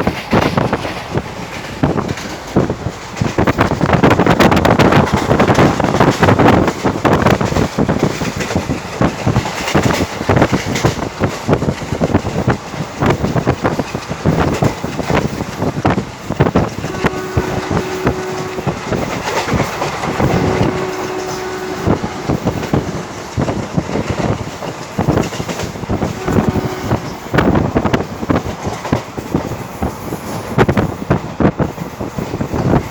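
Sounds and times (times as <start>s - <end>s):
train wheels clattering on rails: 0.0s - 32.9s.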